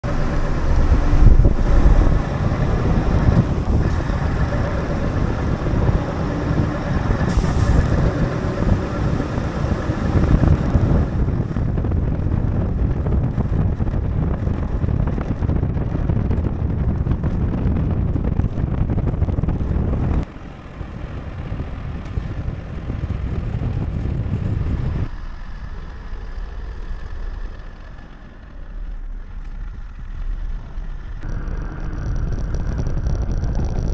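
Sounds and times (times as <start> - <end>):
wind on microphone: 0.0 - 25.9, 29.2 - 33.9
heavy truck engine rumble: 0.0 - 33.9.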